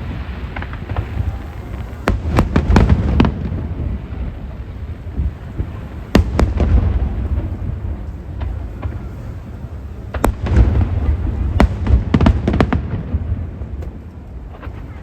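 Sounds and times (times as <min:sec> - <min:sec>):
fireworks bursting with sharp bangs: 0:00.0 - 0:15.0
low rumble of echoing explosions: 0:00.0 - 0:15.0.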